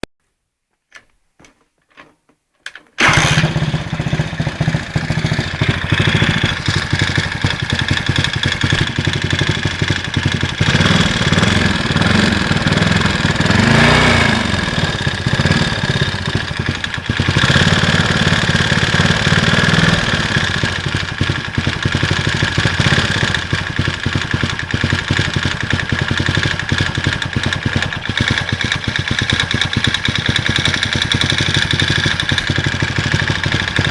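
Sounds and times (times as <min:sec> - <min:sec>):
scooter engine running and revving: 0:03.0 - 0:33.9.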